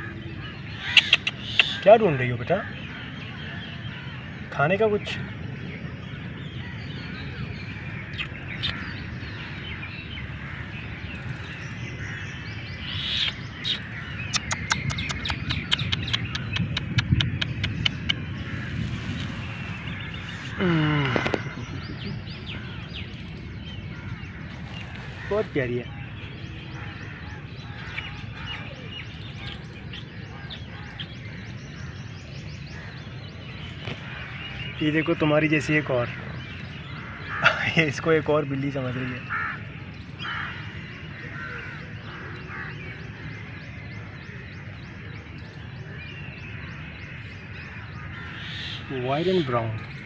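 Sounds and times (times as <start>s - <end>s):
low outdoor rumble: 0.0s - 48.3s
small birds chirping: 0.0s - 50.0s.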